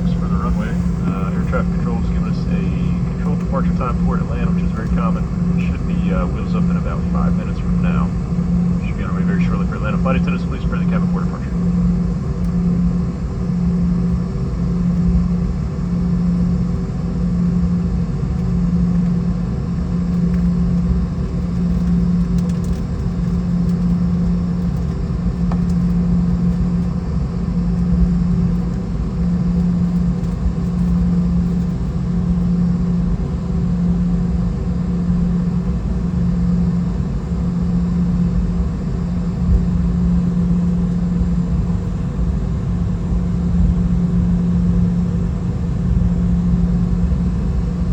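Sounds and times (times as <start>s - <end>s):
jet engine hum in cabin: 0.0s - 47.9s.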